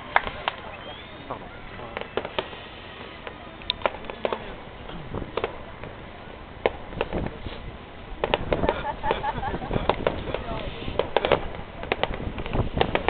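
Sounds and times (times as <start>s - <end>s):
fireworks cracking and popping: 0.0s - 13.0s.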